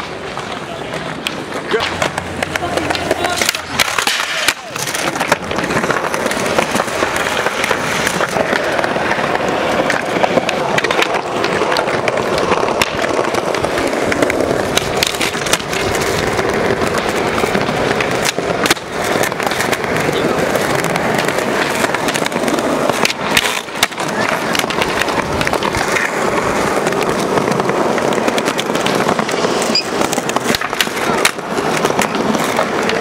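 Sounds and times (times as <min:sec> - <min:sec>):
skateboard clacking: 0:00.0 - 0:33.0
skateboard wheels rolling on pavement: 0:00.0 - 0:33.0.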